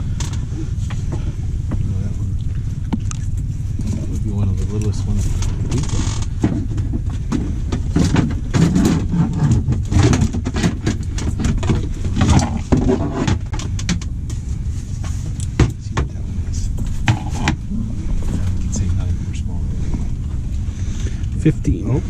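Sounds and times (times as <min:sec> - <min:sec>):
steady low rumble: 0:00.0 - 0:22.0
rustling and clicking: 0:00.1 - 0:19.2.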